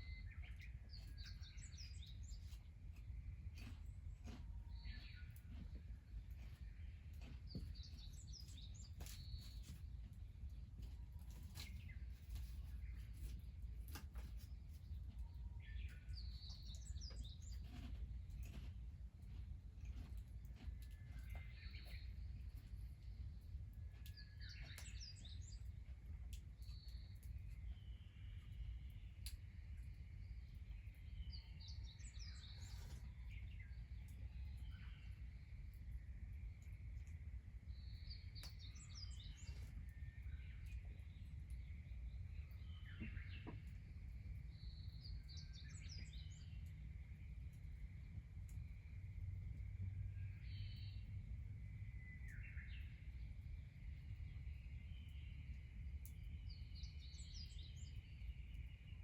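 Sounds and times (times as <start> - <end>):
faint low outdoor rumble: 0.0 - 59.0
small birds chirping: 0.0 - 59.0.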